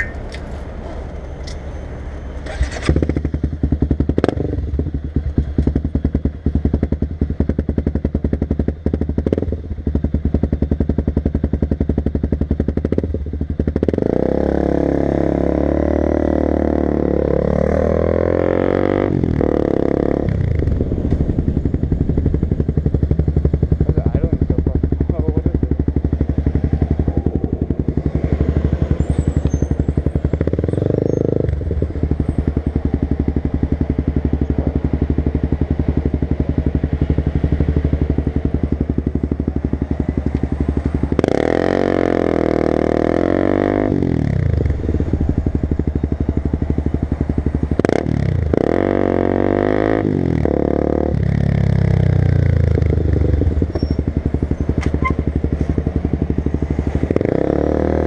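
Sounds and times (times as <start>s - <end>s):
motorcycle engine revving: 2.4s - 58.0s.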